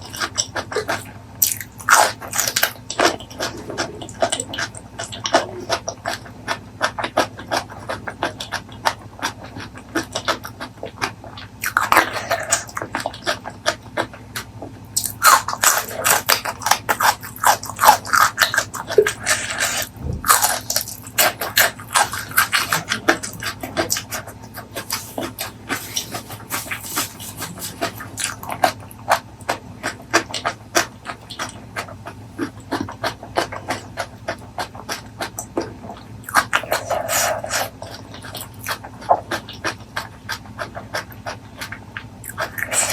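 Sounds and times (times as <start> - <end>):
faint low hum: 0.0 - 42.9
wet chewing and lip-smacking: 0.0 - 42.9.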